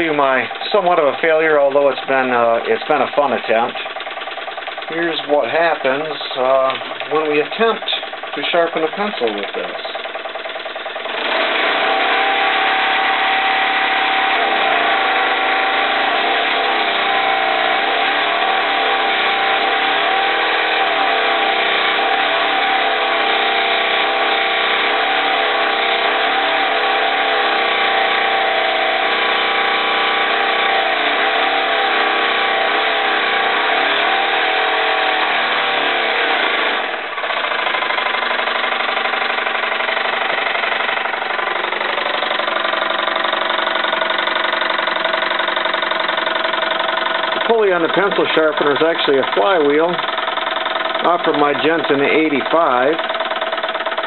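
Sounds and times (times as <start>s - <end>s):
toy steam engine running: 0.0s - 54.0s.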